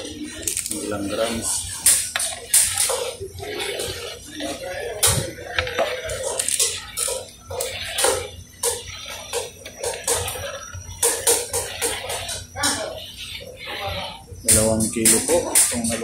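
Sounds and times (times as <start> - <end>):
utensil scraping and knocking pot: 0.0 - 16.0.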